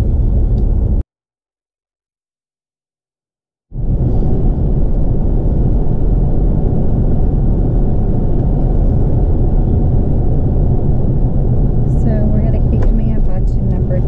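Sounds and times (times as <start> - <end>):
car road and engine rumble: 0.0 - 1.0, 3.8 - 14.0.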